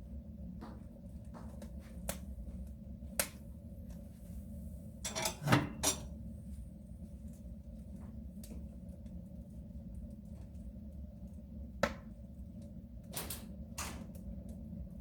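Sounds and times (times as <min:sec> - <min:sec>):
wood fire crackling in stove: 0:00.0 - 0:15.0.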